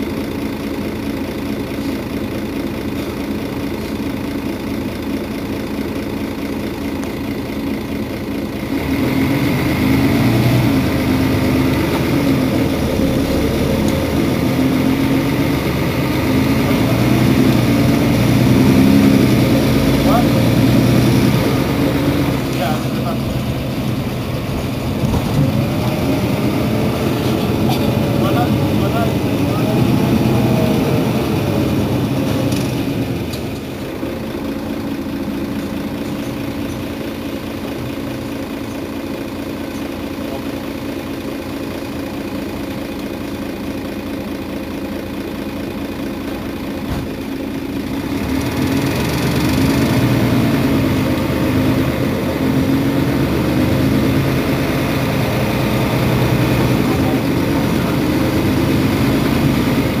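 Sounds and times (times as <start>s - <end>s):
bus diesel engine idling: 0.0s - 60.0s.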